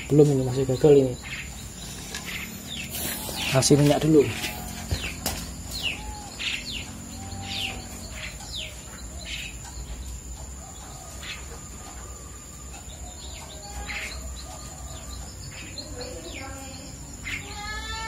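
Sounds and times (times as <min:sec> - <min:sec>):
nestlings chirping: 0:00.0 - 0:18.0.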